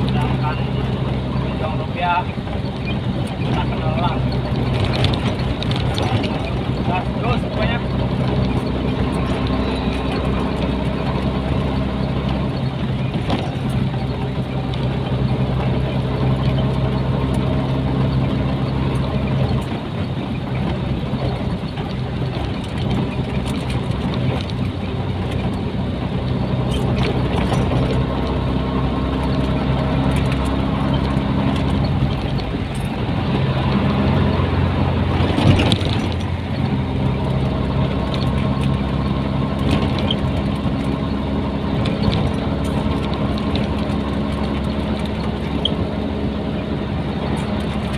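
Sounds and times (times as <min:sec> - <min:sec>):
road noise: 0:00.0 - 0:47.9
truck diesel engine running: 0:00.0 - 0:47.9.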